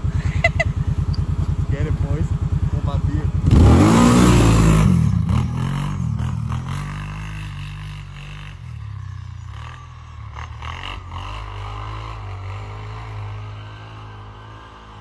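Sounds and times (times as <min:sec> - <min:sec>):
quad bike engine revving: 0:00.0 - 0:15.0.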